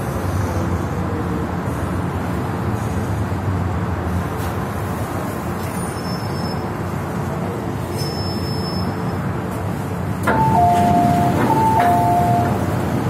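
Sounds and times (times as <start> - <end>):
train rumbling in motion: 0.0 - 13.0.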